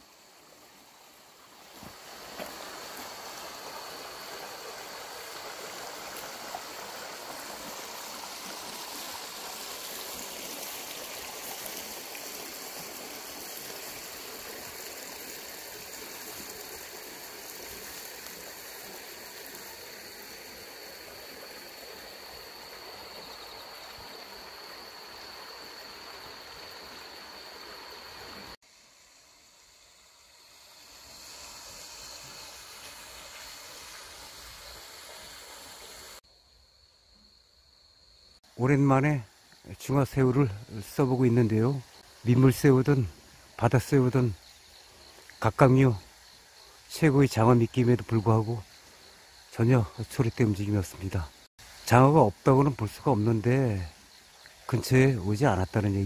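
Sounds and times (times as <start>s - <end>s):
flowing water rushing: 0.0s - 28.6s, 30.2s - 36.2s, 38.5s - 56.0s
faint hiss: 0.0s - 56.0s.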